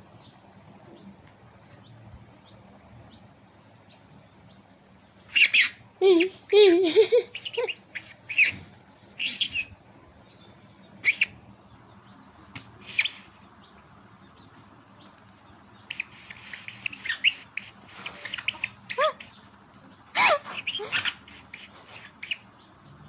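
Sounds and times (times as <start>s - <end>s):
bird chirping: 0.1s - 23.0s.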